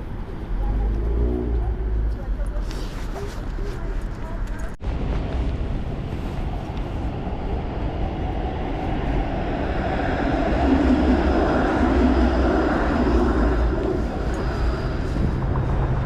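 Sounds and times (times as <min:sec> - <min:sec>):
streetcar passing by: 0:00.0 - 0:16.0.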